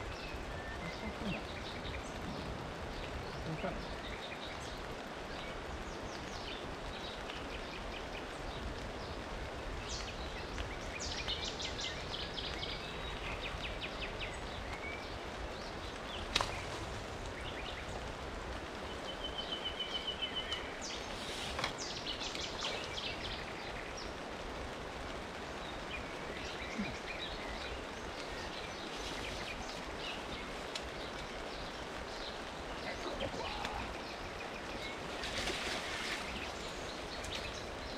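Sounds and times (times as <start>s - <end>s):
rain hissing on water and leaves: 0.0s - 37.9s
small birds chirping and singing: 0.0s - 37.9s.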